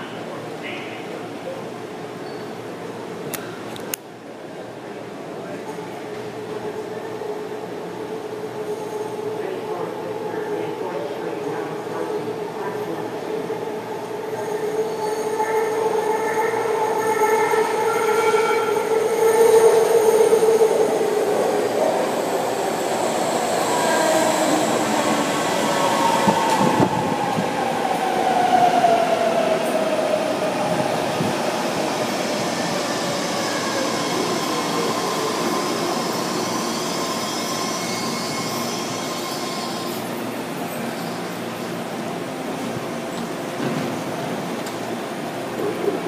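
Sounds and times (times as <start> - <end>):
subway train braking: 0.0 - 46.0.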